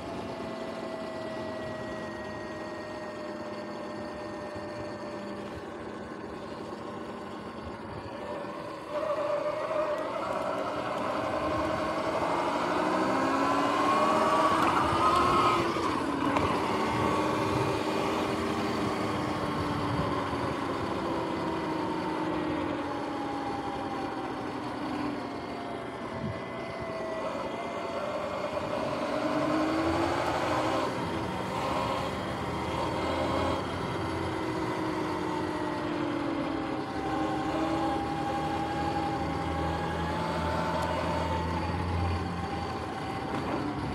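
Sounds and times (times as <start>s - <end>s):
electric motorbike motor whining: 0.0s - 43.9s
wind and road noise: 0.0s - 43.9s.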